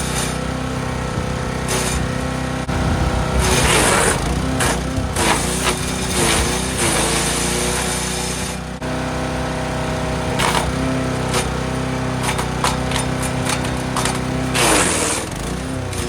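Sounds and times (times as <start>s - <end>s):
blades crunching wood: 0.0s - 8.8s, 9.8s - 16.0s
wood chipper engine running: 0.0s - 16.0s.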